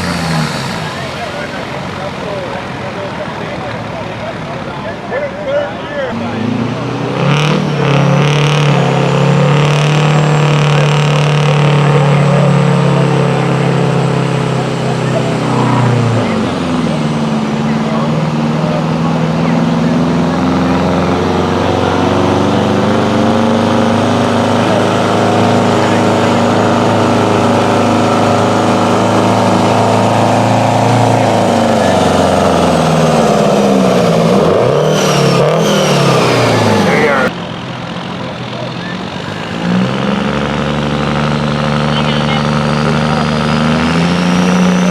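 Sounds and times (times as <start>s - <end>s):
truck engine at high revs: 0.0s - 44.9s.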